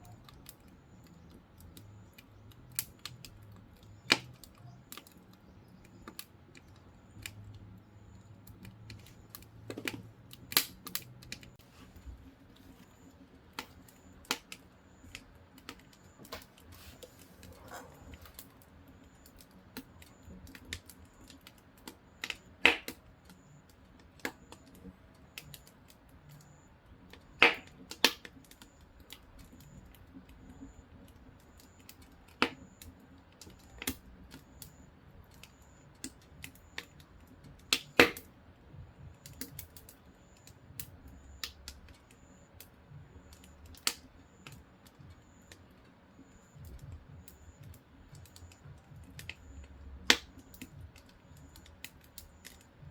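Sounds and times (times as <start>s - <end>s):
firewood crackling and popping: 0.0s - 52.9s.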